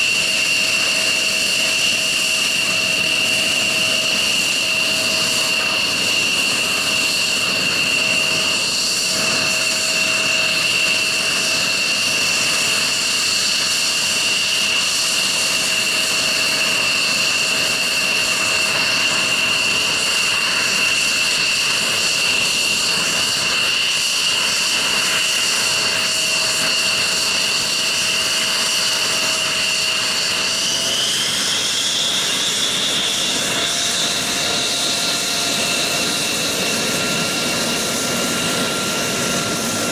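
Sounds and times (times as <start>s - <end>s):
jet engine idling whine and roar: 0.0s - 39.9s.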